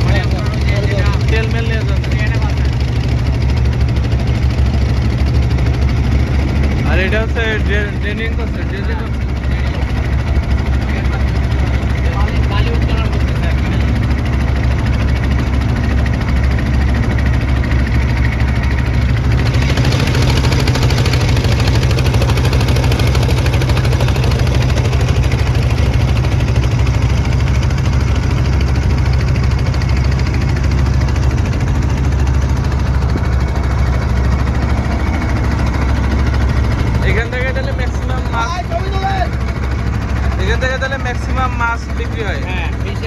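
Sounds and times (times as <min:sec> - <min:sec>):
motorboat engine droning: 0:00.0 - 0:43.0.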